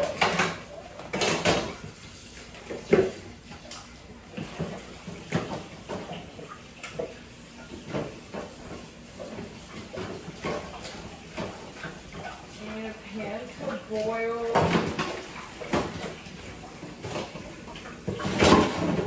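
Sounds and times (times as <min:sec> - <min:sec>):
tap water running into a pot: 0:00.0 - 0:19.0.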